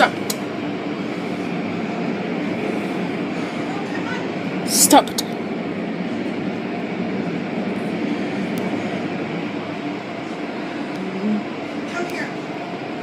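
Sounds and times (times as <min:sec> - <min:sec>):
car wash machinery running: 0:00.0 - 0:13.0.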